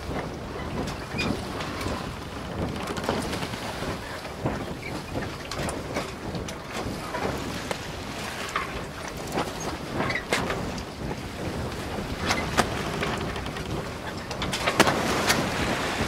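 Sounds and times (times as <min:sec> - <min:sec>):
rushing water: 0:00.0 - 0:16.0
waves slapping against hulls: 0:00.0 - 0:16.0
wind buffeting microphone: 0:00.0 - 0:16.0.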